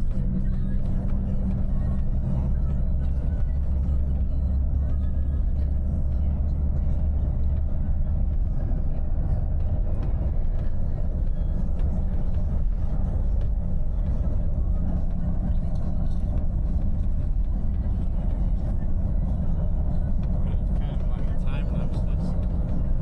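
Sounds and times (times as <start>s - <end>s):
bus engine rumble and road noise: 0.0s - 23.0s.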